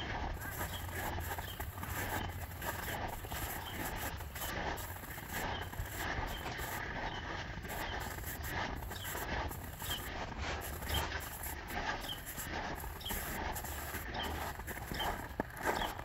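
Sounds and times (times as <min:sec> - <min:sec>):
low steady rumble: 0:00.0 - 0:15.6
footsteps on snow and ice: 0:00.0 - 0:16.0.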